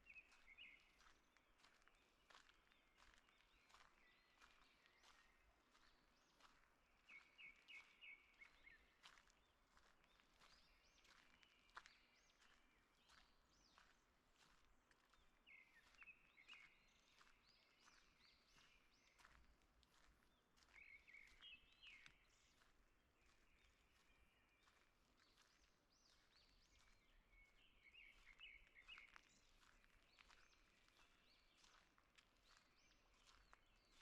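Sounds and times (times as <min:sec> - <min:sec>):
faint birds chirping: 0:00.0 - 0:34.0
soft footsteps on forest path: 0:00.0 - 0:34.0.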